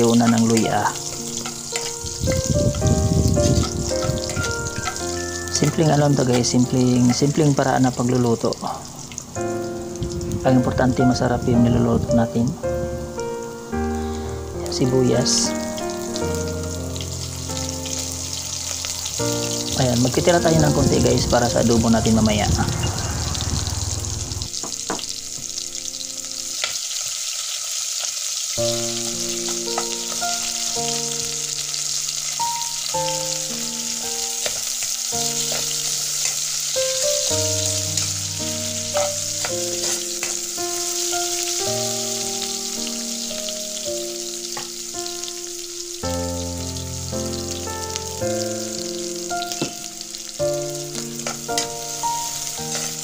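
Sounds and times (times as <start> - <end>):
onion sizzling in oil: 0.0 - 53.0
soft background music: 0.0 - 53.0.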